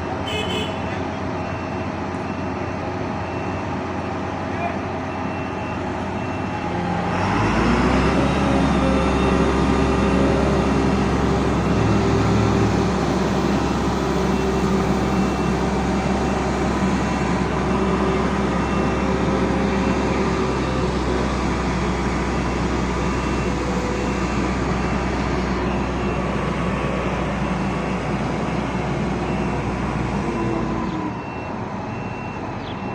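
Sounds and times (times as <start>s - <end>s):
large vehicle engine rumbling: 0.0s - 32.9s.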